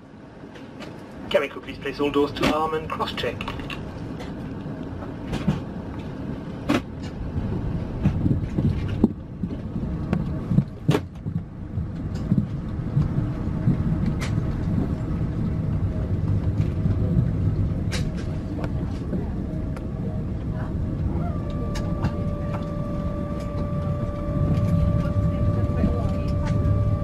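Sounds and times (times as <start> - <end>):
aircraft cabin rumble: 0.0 - 27.0.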